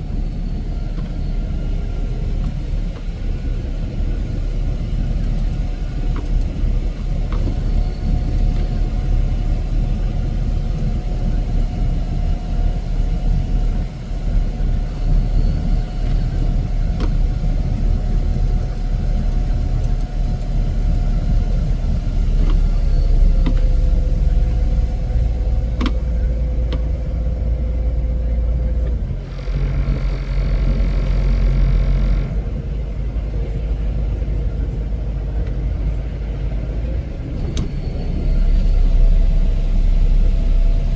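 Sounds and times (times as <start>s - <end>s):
faint whine: 0.0s - 40.9s
heavy machinery engine rumble: 0.0s - 40.9s.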